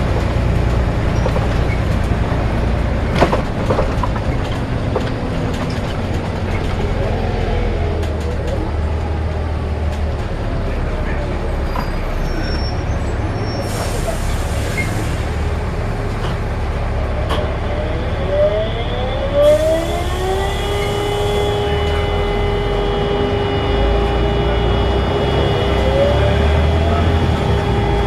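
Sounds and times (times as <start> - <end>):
bus engine running: 0.0 - 28.0
rising whine of bus: 0.0 - 28.0.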